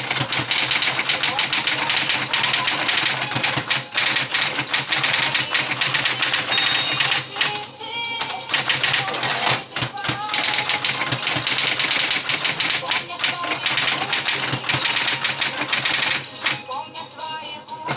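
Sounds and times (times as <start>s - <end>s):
typewriter key strikes: 0.0s - 7.7s, 8.5s - 16.6s
typewriter ringing tone: 0.0s - 16.7s
typewriter motor hum: 0.0s - 16.8s.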